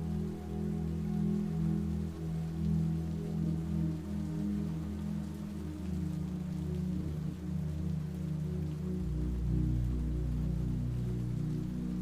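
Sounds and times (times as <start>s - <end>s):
slow ambient music: 0.0s - 12.0s
soft rain: 0.0s - 12.0s.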